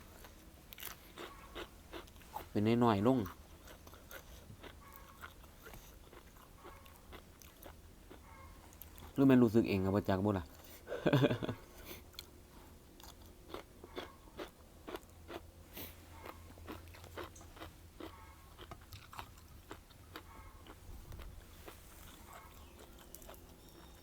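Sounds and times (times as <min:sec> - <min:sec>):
person chewing crunchy food: 0:00.0 - 0:09.2, 0:11.5 - 0:24.0.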